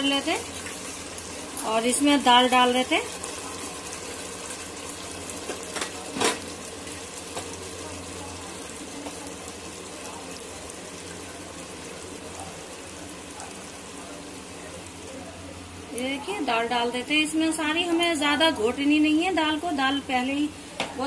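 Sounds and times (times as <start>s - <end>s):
sauce sizzling in oil: 0.0s - 19.2s
oil bubbling: 0.0s - 19.8s.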